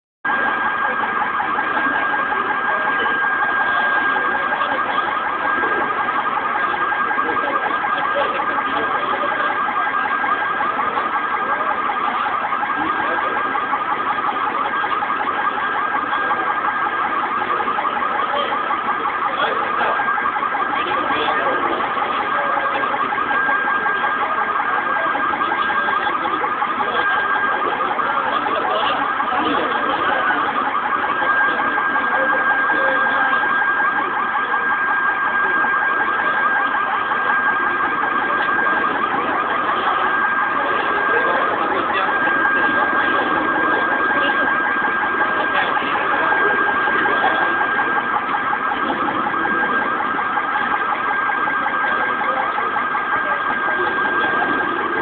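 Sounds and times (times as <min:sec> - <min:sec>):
car alarm warbling: 0:00.2 - 0:55.0.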